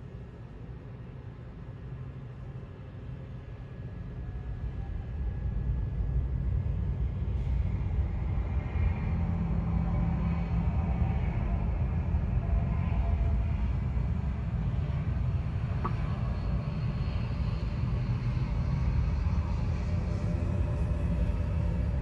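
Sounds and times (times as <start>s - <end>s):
jet engines low rumble: 0.0s - 22.0s.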